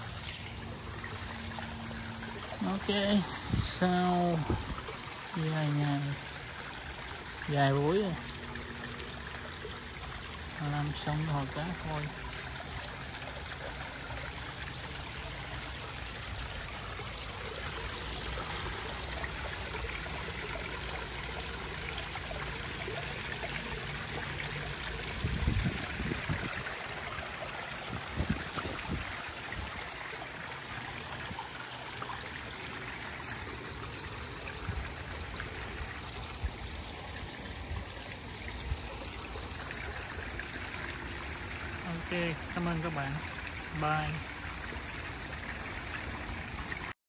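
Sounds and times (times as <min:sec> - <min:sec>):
fountain and waterfall splashing: 0:00.0 - 0:47.0.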